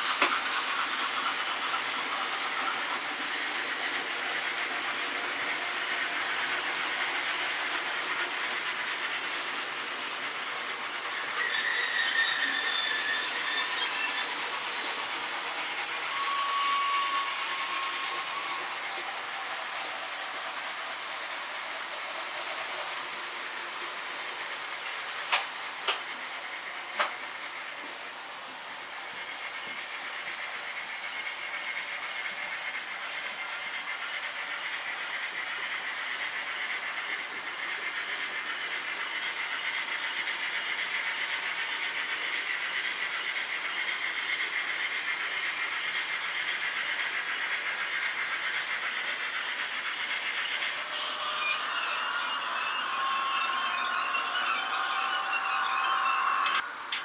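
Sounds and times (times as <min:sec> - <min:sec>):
model train wheels rattling on track: 0:00.0 - 0:27.9, 0:29.0 - 0:54.8.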